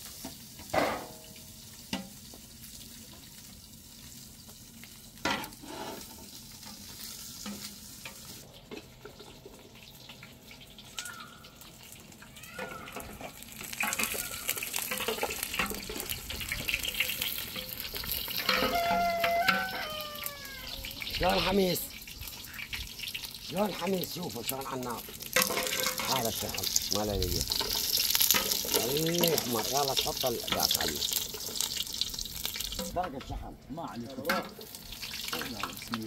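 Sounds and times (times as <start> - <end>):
meat sizzling and crackling: 0.0 - 36.0.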